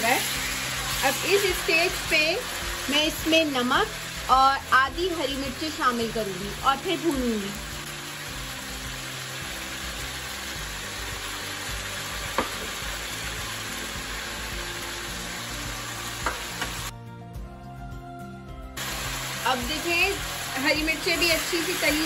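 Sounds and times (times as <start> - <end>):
chicken sizzling in oil: 0.0 - 16.9, 18.8 - 22.0.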